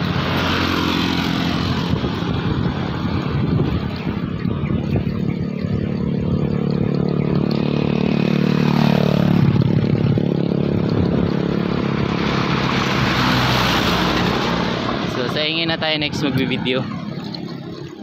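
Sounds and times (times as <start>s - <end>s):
wind noise on microphone: 0.0s - 15.2s
vehicle engine running: 0.0s - 18.0s.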